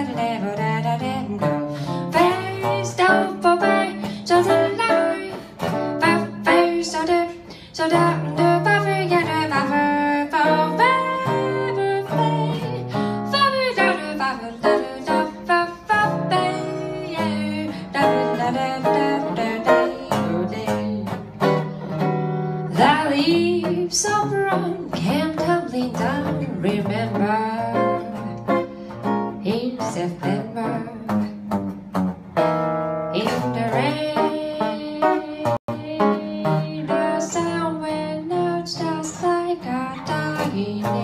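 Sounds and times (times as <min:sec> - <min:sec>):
jazz guitar solo: 0:00.0 - 0:41.0.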